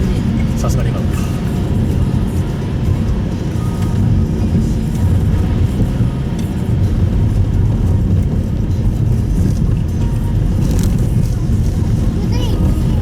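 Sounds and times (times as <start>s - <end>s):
car engine noise: 0.0s - 13.0s
road and tyre rumble: 0.0s - 13.0s.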